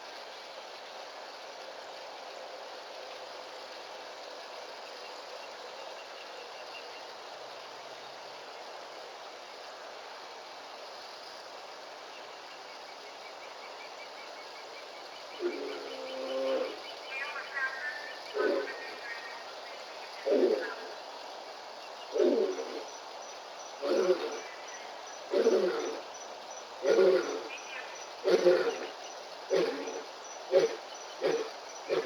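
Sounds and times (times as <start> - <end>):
crickets chirping: 0.0 - 32.0
outdoor background hiss: 0.0 - 32.0.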